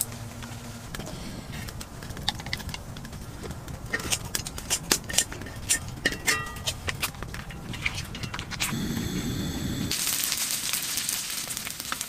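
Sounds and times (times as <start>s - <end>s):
fat crackling and popping: 0.0s - 12.0s.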